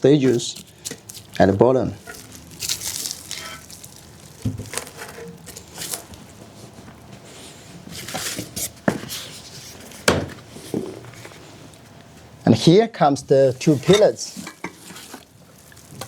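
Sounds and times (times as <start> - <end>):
plastic and foam packaging rustling: 0.0 - 12.5, 13.1 - 16.0.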